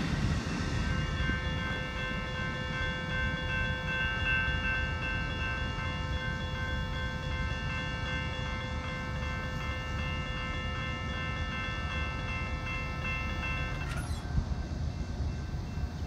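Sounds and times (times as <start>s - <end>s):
train high tones chord: 0.0s - 16.0s.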